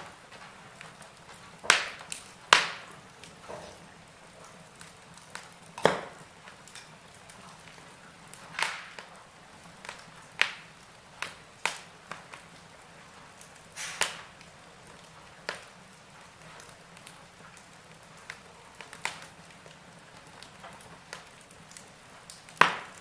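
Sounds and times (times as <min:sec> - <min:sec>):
faint steady hiss: 0:00.0 - 0:23.0
wood fire crackling: 0:00.0 - 0:23.0.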